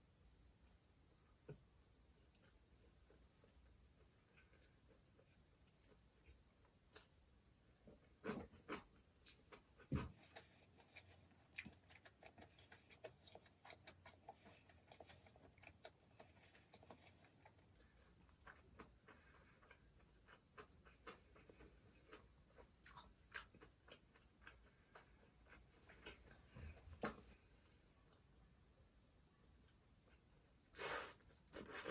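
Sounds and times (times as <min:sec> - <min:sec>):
soft chewing: 0:00.1 - 0:31.9.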